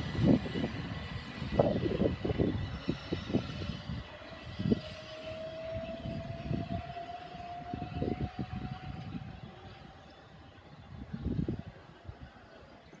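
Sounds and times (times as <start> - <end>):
electric train motor whine: 0.0 - 12.6.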